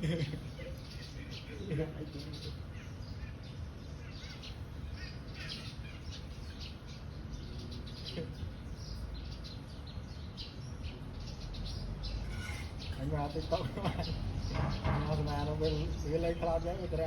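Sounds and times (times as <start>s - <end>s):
small bird chirping: 0.8s - 17.0s.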